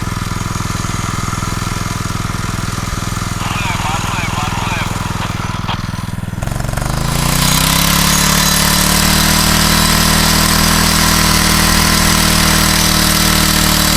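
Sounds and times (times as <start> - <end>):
engine revving: 0.0 - 13.9.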